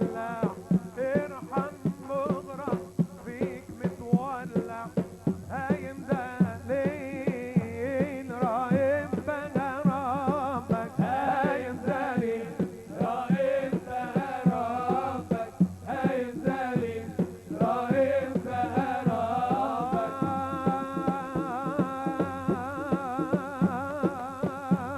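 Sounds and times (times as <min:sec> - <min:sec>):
fast drum beat: 0:00.0 - 0:24.9.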